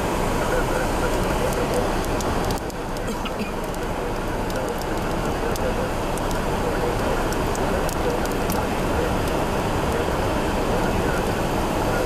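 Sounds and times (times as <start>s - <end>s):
car road noise: 0.0s - 12.0s
raindrops ticking on windshield: 0.0s - 12.0s.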